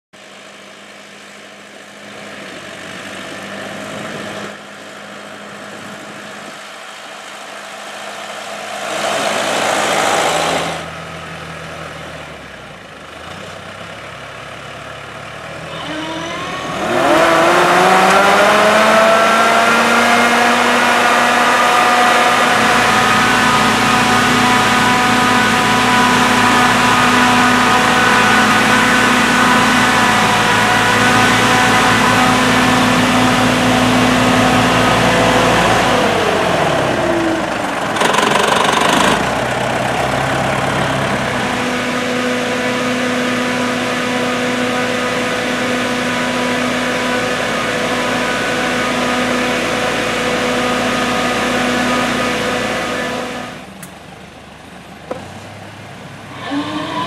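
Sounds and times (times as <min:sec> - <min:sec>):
sprayer fan whine: 0:00.2 - 0:13.0, 0:14.3 - 0:57.0
tractor diesel engine running: 0:00.2 - 0:57.0.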